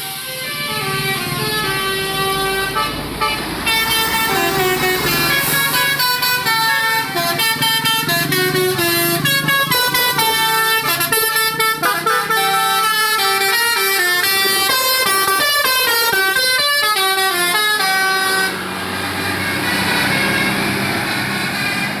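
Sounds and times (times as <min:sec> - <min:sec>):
multi-tone musical air horn: 0:00.0 - 0:22.0.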